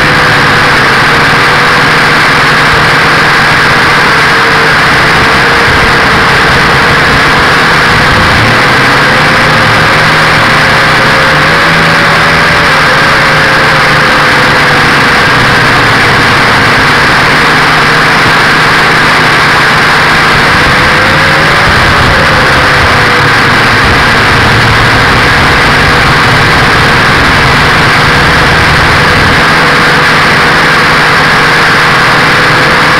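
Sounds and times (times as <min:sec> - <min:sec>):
drone motors buzzing whine: 0:00.0 - 0:32.9.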